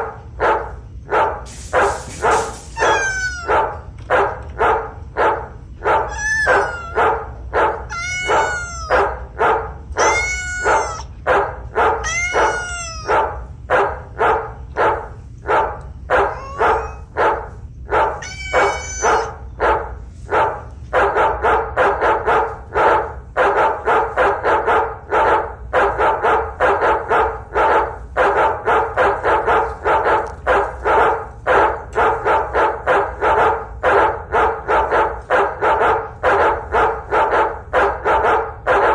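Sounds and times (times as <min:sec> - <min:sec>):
toy dog barking: 0:00.0 - 0:38.9.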